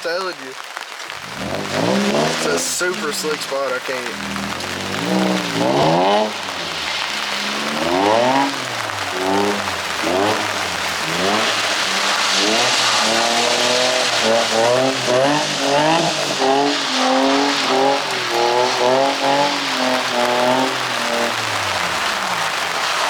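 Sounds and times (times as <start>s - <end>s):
tyres hissing on wet pavement: 0.0s - 23.0s
car engine revving: 1.1s - 23.0s.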